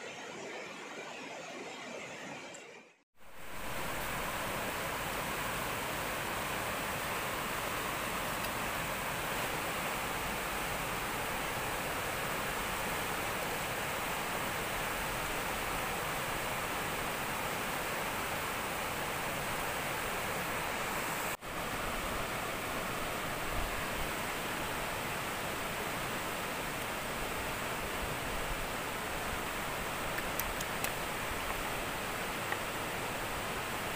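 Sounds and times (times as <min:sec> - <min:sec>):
flowing river water: 0:03.2 - 0:33.9.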